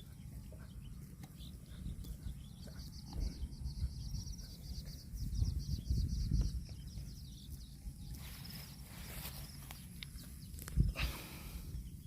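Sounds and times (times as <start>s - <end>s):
rapid high-pitched chirping: 0.0s - 10.9s.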